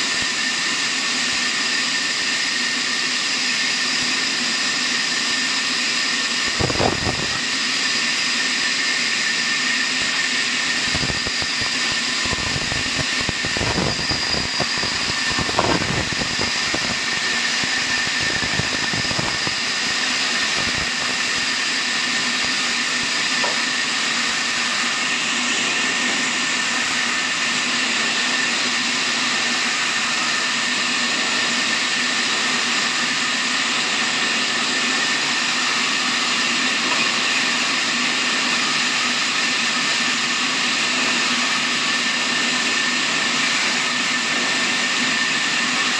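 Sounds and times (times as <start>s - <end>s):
band saw whining: 0.0s - 45.9s.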